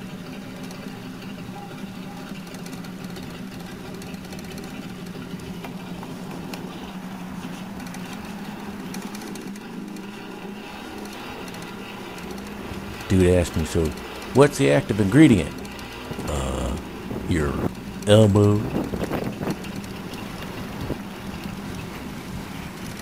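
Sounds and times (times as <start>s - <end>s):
motor hum: 0.0s - 23.0s.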